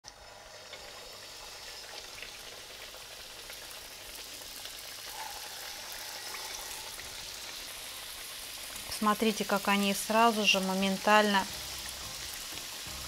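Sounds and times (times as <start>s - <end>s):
dough pies frying in oil: 0.0s - 13.0s.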